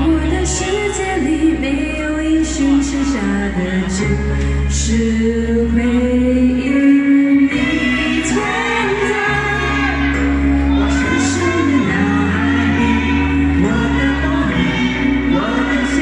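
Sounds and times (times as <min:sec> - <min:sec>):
backing music: 0:00.0 - 0:16.0
woman singing a pop ballad: 0:00.0 - 0:16.0.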